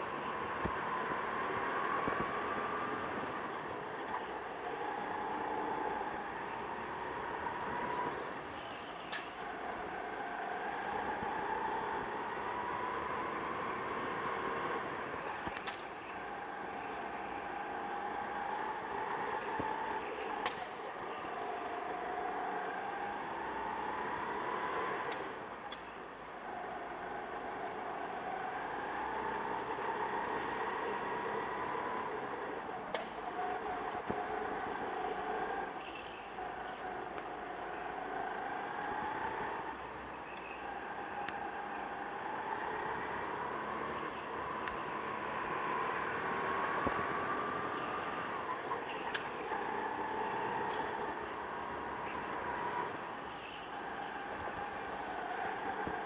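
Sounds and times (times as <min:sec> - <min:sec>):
go-kart motor revving: 0:00.0 - 0:56.0.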